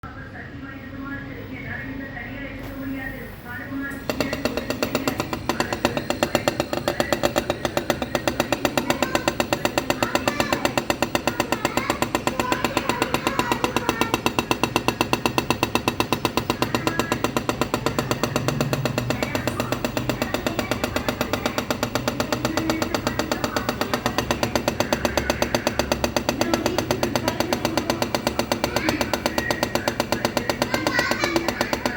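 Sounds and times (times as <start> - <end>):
refrigerator compressor knocking: 2.6 - 31.9.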